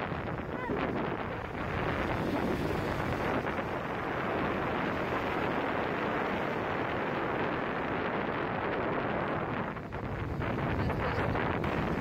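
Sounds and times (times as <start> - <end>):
sea surf breaking: 0.0 - 12.0
wind buffeting microphone: 0.0 - 12.0.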